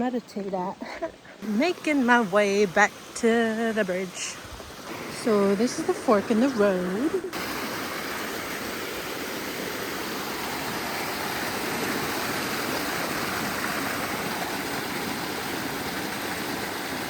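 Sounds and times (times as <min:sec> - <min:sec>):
waterfall rushing: 0:01.4 - 0:17.0.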